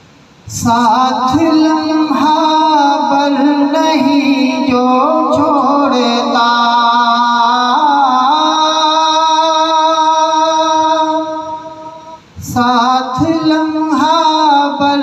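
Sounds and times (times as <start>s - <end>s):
man singing: 0.5s - 15.0s.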